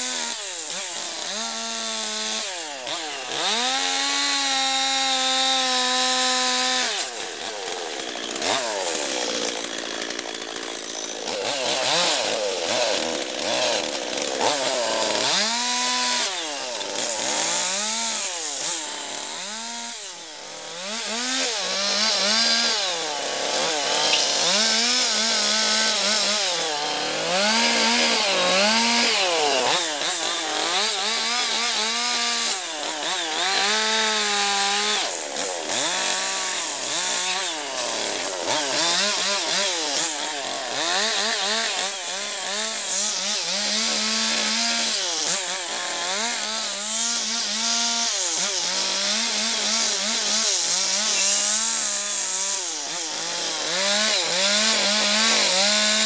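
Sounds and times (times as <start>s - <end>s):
chainsaw cutting into log: 0.0s - 56.0s.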